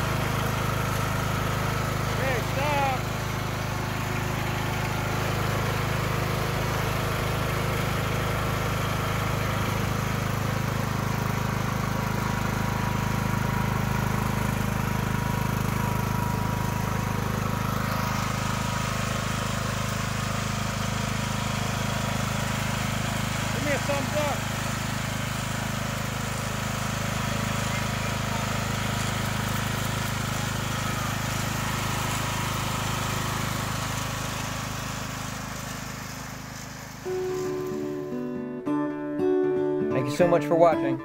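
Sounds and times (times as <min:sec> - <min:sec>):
riding lawn mower engine running: 0:00.0 - 0:41.0.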